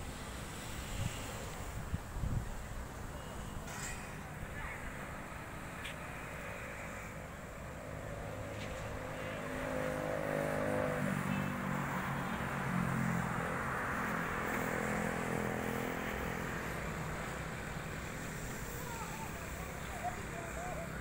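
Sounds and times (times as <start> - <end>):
tyres hissing on wet road: 0.0 - 3.4, 5.0 - 21.0
truck engines running: 0.0 - 21.0.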